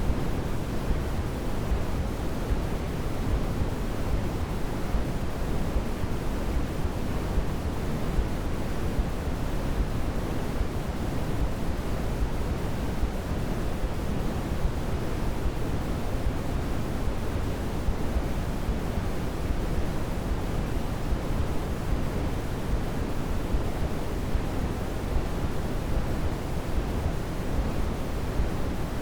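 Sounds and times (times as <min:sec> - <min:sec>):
white noise hiss: 0:00.0 - 0:29.0.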